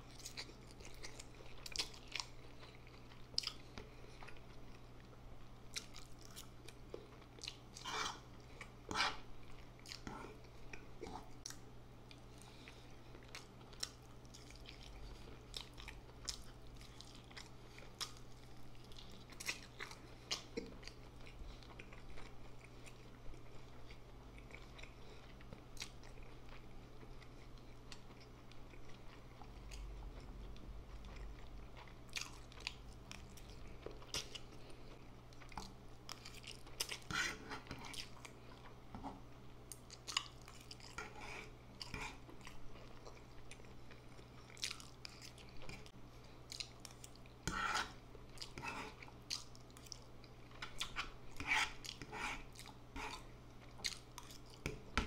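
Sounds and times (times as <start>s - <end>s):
chewing noodles: 0.0s - 54.8s
low electrical hum: 0.0s - 55.0s.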